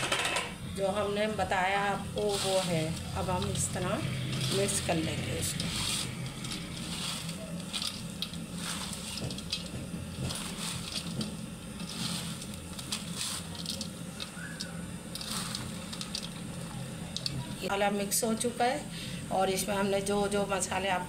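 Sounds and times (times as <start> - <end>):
hands mixing food in a bowl: 0.8 - 17.7.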